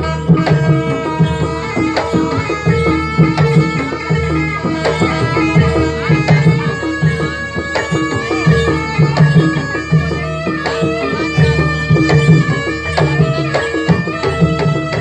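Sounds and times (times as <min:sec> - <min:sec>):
hand drums: 0:00.0 - 0:15.0
ringing pitched gamelan notes: 0:00.0 - 0:15.0.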